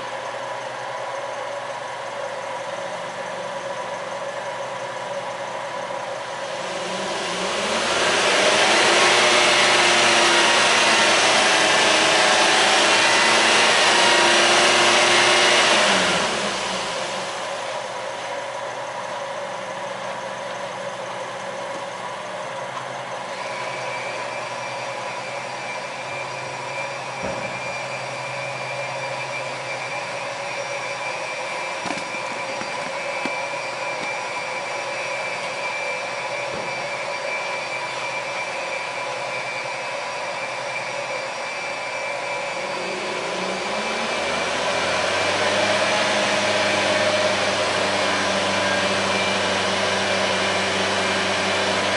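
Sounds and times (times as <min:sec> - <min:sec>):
minivan engine idling and revving: 0:00.0 - 0:51.9.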